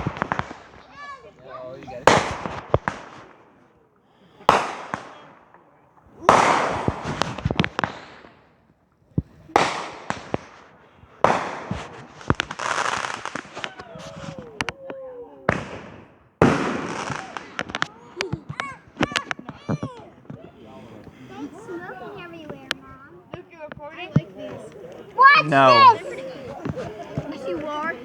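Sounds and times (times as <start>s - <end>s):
crackling firework pops: 0.0s - 28.0s
fireworks bangs: 0.0s - 28.0s.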